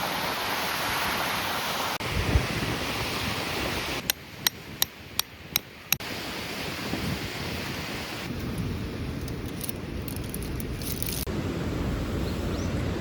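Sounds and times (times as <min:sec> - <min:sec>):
wind rushing over microphone: 0:01.9 - 0:13.0.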